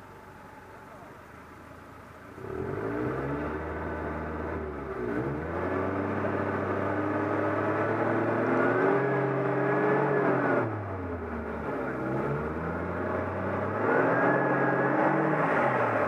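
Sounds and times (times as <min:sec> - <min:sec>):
off-road vehicle engine revving: 0:02.4 - 0:16.0.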